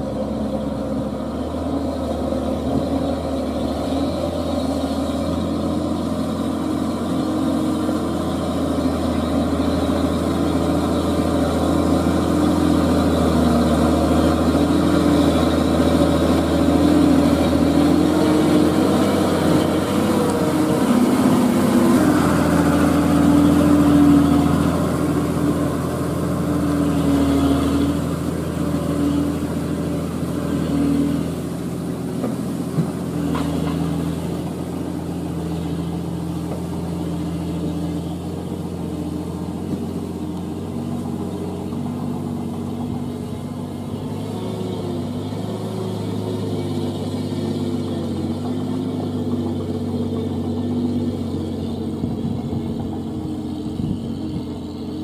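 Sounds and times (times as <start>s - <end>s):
dump truck engine under load: 0.0s - 55.0s.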